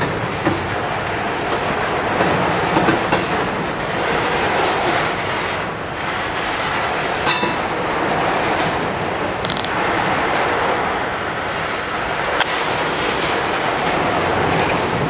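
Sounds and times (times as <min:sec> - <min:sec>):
freight train rumbling past: 0:00.0 - 0:15.0
wheels clicking over rails: 0:00.0 - 0:15.0.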